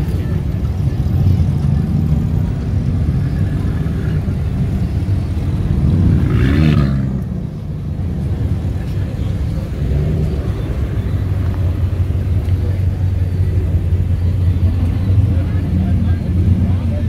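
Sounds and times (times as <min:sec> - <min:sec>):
car engine revving: 0:00.0 - 0:17.0
car engines rumbling: 0:00.0 - 0:17.0.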